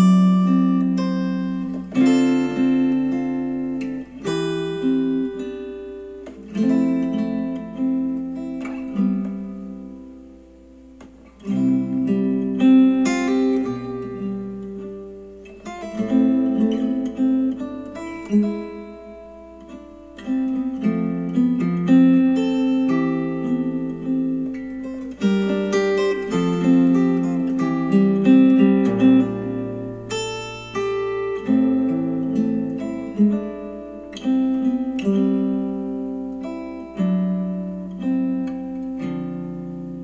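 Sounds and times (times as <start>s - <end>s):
acoustic guitar music: 0.0s - 40.0s.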